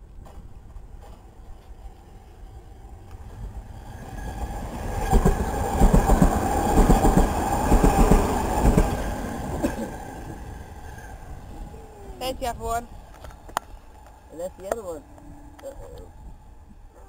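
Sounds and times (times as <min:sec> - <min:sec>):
steady train whine: 0:00.0 - 0:17.0
train passing at speed: 0:00.0 - 0:17.0.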